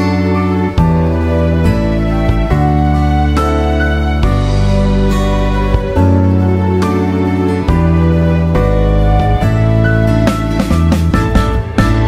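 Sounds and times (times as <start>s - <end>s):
slow gentle instrumental music: 0.0s - 12.0s.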